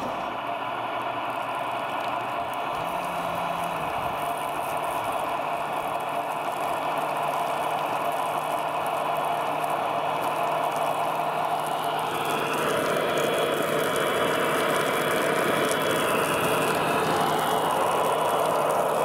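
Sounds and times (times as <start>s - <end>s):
electric water pump humming: 0.0s - 19.0s
water spraying hiss: 0.0s - 19.0s.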